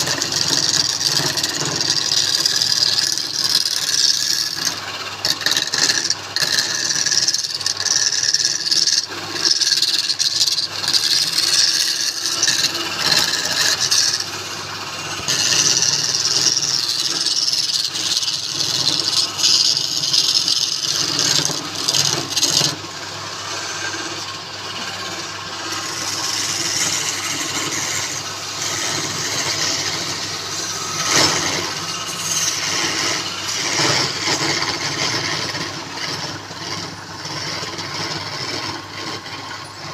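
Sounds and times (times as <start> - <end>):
lathe motor hum: 0.0 - 39.9
turning tool scraping wood: 0.0 - 39.9.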